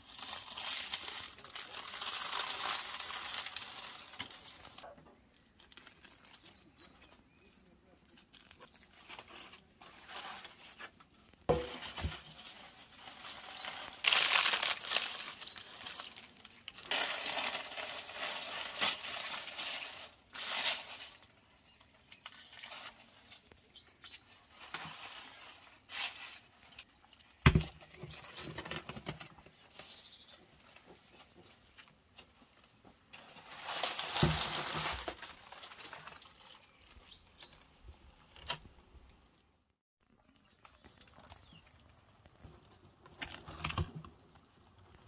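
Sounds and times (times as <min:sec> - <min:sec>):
aluminium foil crinkling and tearing: 0:00.0 - 0:38.8, 0:40.6 - 0:45.0.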